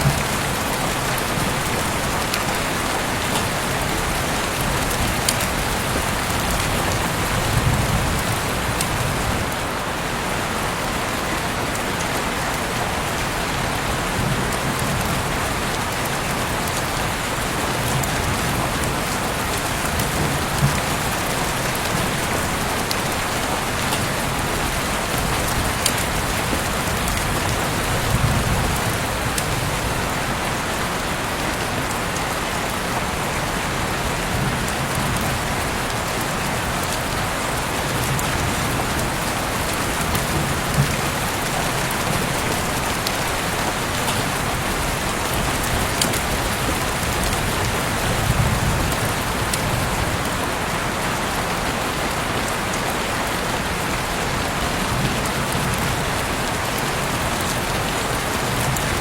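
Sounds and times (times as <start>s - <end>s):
heavy rain hissing: 0.0s - 59.0s
rain drops ticking: 0.0s - 59.0s.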